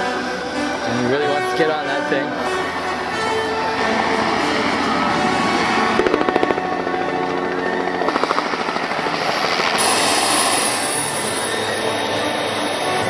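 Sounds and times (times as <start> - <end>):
background music: 0.0 - 13.0
helicopter rotor beating: 0.0 - 13.0.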